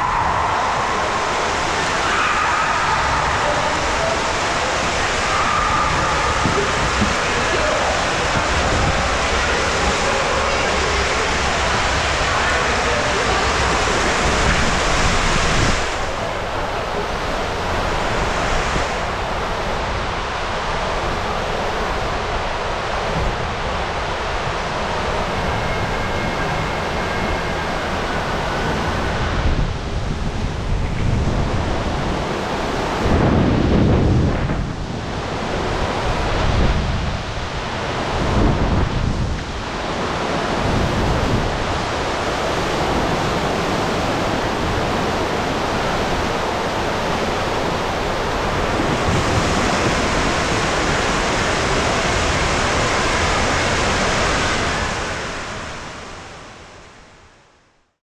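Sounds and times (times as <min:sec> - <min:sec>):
water rushing and splashing: 0:00.0 - 0:57.3.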